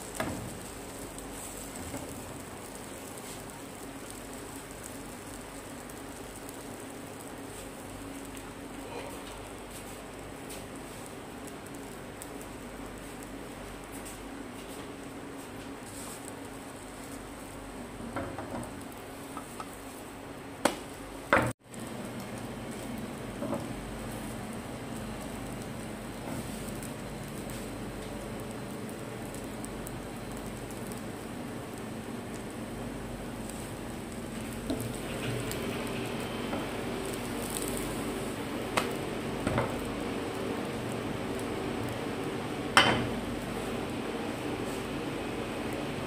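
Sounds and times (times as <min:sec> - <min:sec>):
toast sizzling in a pan: 0:00.0 - 0:46.0.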